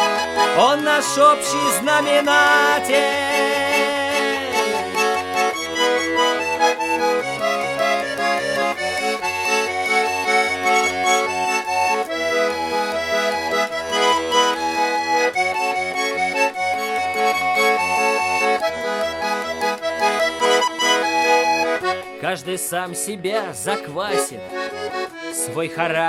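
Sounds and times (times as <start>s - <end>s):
button accordion solo: 0.0s - 26.0s.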